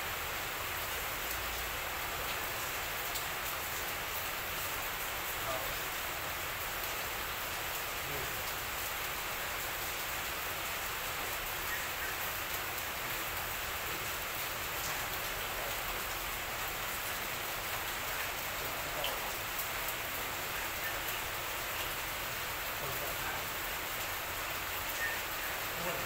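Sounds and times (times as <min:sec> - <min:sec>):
rain hissing: 0:00.0 - 0:26.0.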